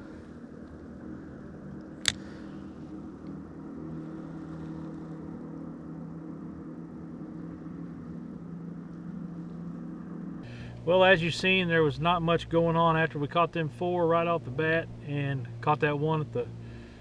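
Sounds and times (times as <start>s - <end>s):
electric trolling motor humming: 0.0s - 17.0s.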